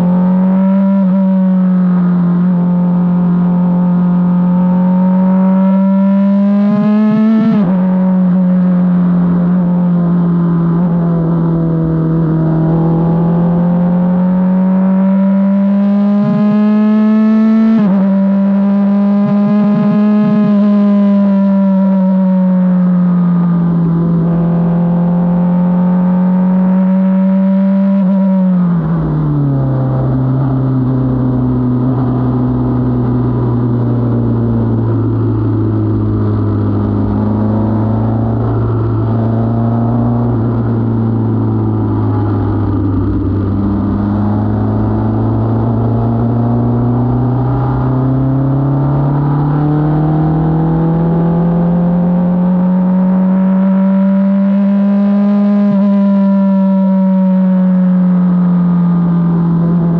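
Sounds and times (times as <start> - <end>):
race car engine under load: 0.0 - 56.3.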